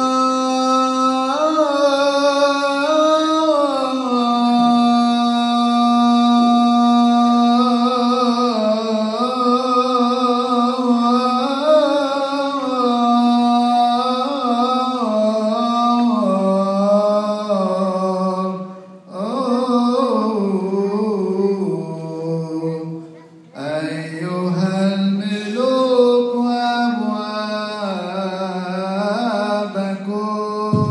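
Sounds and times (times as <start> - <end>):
liturgical hymn chanted: 0.0 - 30.9.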